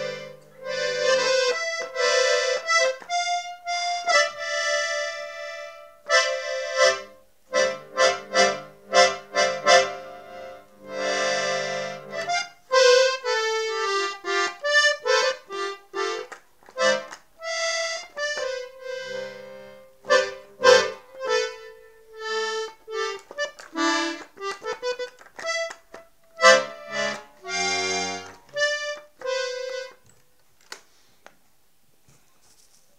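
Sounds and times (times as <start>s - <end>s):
piano accordion melody: 0.0s - 30.8s.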